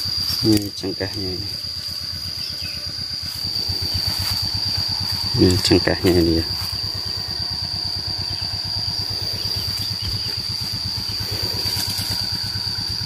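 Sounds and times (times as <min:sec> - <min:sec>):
high-pitched insect buzz: 0:00.0 - 0:13.0
small engine idling: 0:00.0 - 0:13.0.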